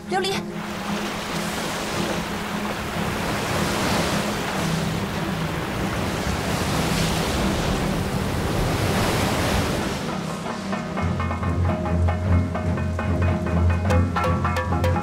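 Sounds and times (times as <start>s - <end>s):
flood water rushing over rocks: 0.0s - 15.0s.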